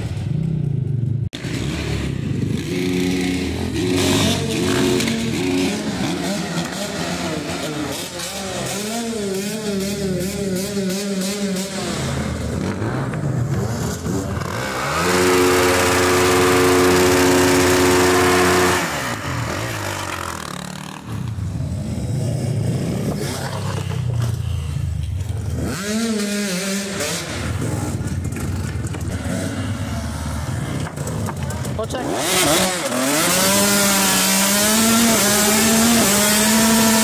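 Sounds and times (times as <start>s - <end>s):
motocross engines revving: 0.0s - 37.0s.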